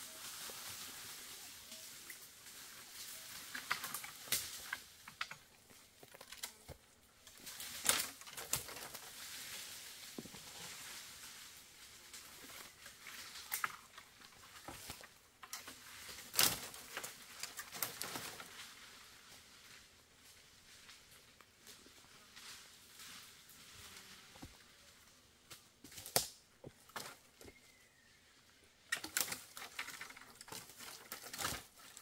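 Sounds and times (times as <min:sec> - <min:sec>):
brush rustling: 0:00.0 - 0:32.0
dry twigs crackling and snapping: 0:00.3 - 0:23.7, 0:25.4 - 0:28.0, 0:28.8 - 0:32.0.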